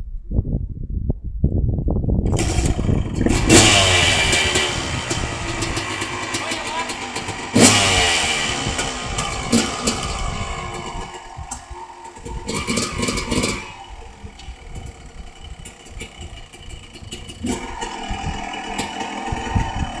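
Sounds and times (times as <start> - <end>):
dirt bike engine revving: 2.2 - 20.0.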